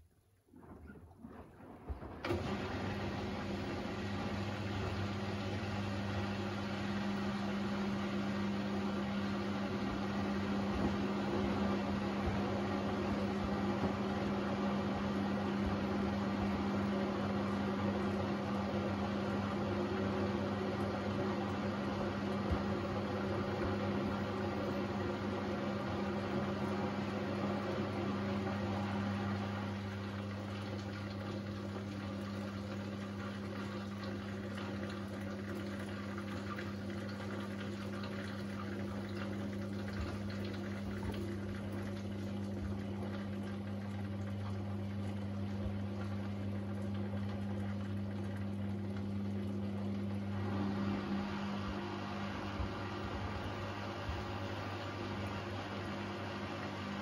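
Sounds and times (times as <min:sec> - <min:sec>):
low electrical hum: 0:00.0 - 0:57.0
washing machine drum sloshing: 0:00.4 - 0:57.0.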